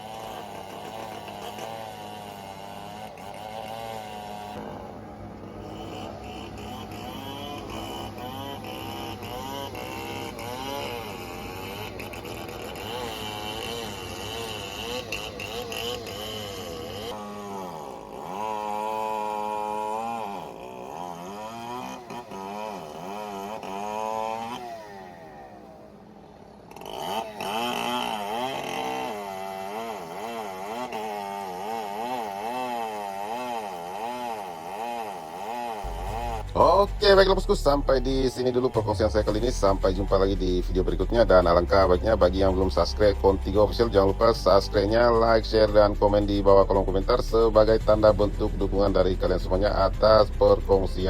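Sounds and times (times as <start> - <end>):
diesel engine under changing load: 0.0 - 51.0.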